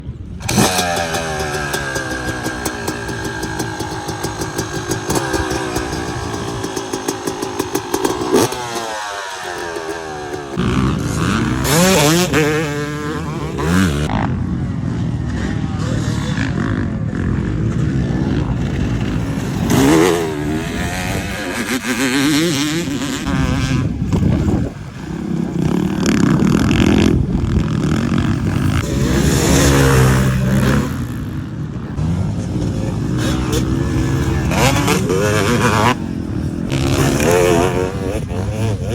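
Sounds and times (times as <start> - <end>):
dirt bike engine revving: 0.4 - 38.9.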